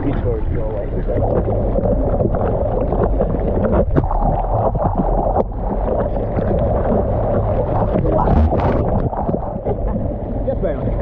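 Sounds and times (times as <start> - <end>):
water splash: 0.0 - 10.2
sea water sloshing: 0.0 - 11.0
wind buffeting microphone: 0.0 - 11.0.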